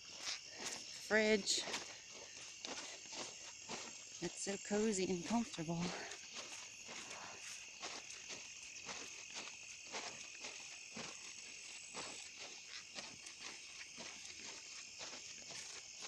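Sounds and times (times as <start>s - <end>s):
footsteps: 0.0s - 16.0s
high-pitched insect chorus: 0.0s - 16.0s.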